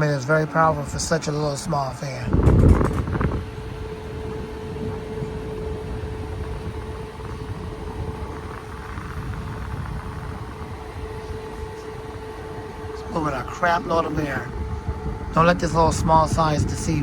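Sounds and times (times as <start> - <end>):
desk fan humming: 0.0 - 17.0
fan air rushing: 0.0 - 17.0.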